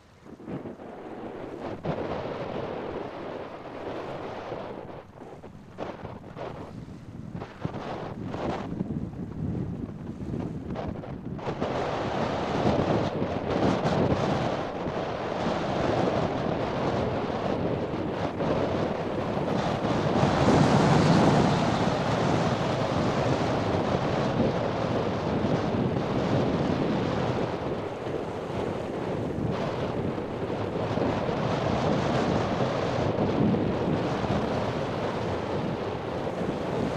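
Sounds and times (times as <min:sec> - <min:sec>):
breaking surf: 0:00.0 - 0:36.9
wind buffeting microphone: 0:00.0 - 0:36.9.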